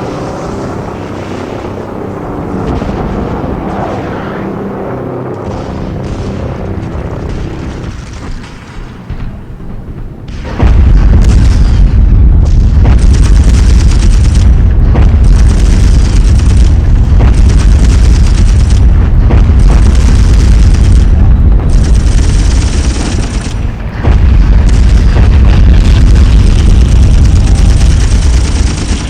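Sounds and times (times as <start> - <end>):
deep explosions: 0.0 - 29.0
heavy rumble of blasts: 0.0 - 29.0.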